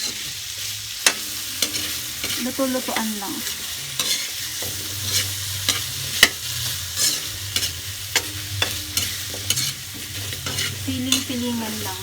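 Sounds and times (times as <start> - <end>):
vegetables sizzling in a pan: 0.0 - 12.0
utensil clicking against pan: 1.0 - 11.9.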